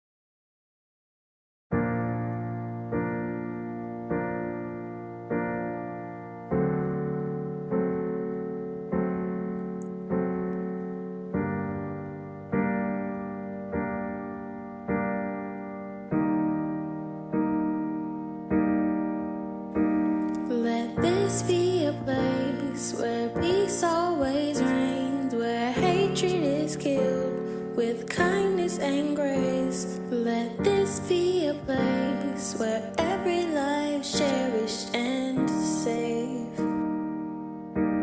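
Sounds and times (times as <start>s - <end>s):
piano block chords: 1.7s - 38.0s.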